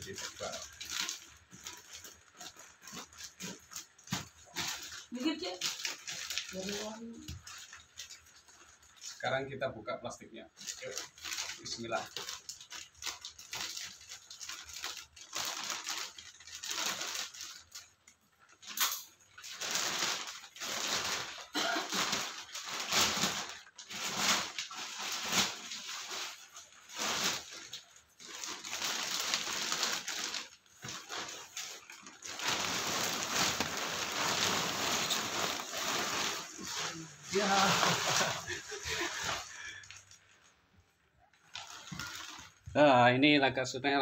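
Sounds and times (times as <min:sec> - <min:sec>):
plastic wrapping crinkling: 0:00.0 - 0:42.9.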